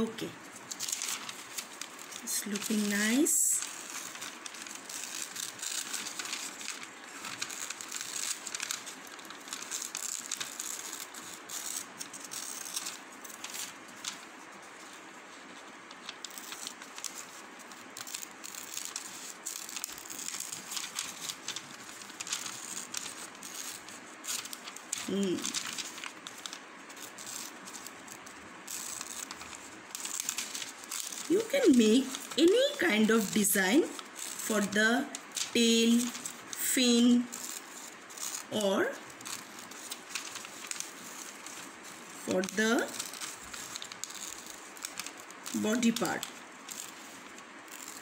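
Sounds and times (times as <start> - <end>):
paper crinkling and rustling: 0.3 - 48.0
scissors snipping paper: 0.7 - 14.2, 16.0 - 48.0.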